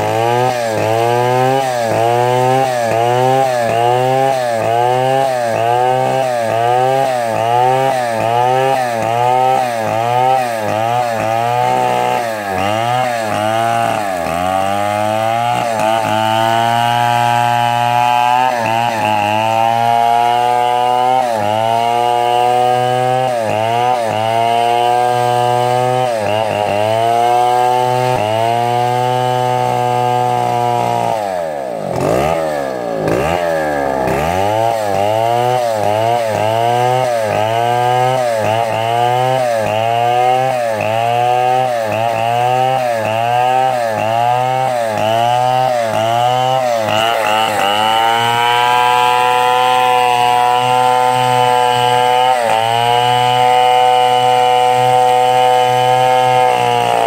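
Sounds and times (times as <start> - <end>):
chainsaw cutting through log: 0.0 - 57.0.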